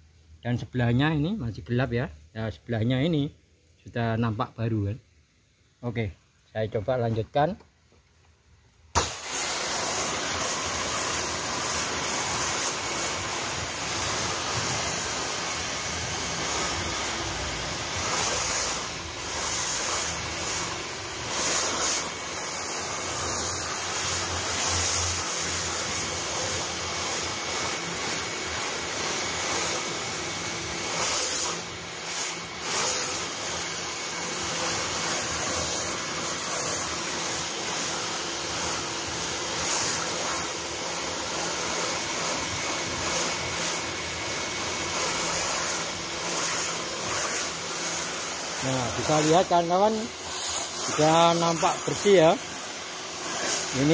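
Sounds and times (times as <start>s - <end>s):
pressure washer jet hissing: 8.9s - 53.9s.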